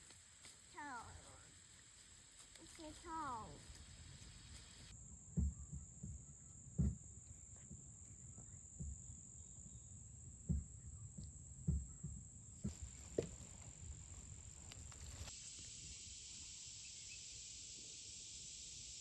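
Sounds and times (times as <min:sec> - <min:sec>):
crickets droning: 0:00.0 - 0:19.0.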